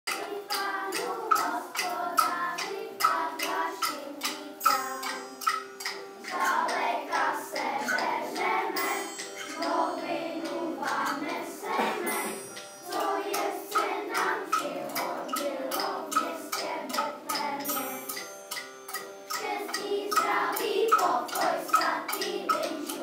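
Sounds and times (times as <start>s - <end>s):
small percussion taps: 0.1s - 9.8s, 11.8s - 23.0s
children singing in unison: 0.1s - 18.3s, 19.3s - 23.0s.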